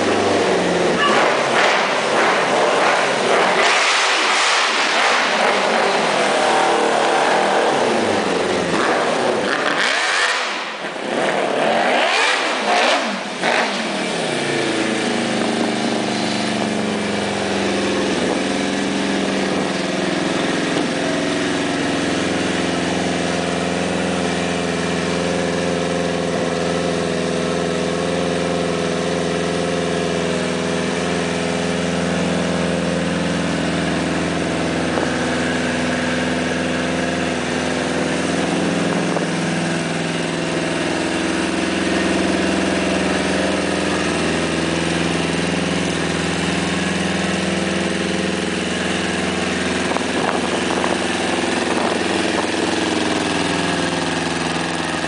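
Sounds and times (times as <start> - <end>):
motorcycle engine revving and idling: 0.0 - 55.0.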